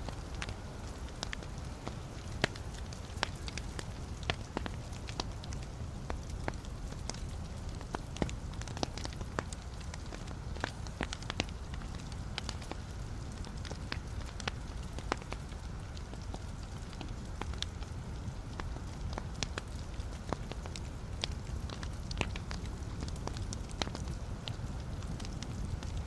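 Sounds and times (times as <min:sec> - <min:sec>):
logs crackling and popping: 0:00.0 - 0:26.0
wood fire rumbling: 0:00.0 - 0:26.0.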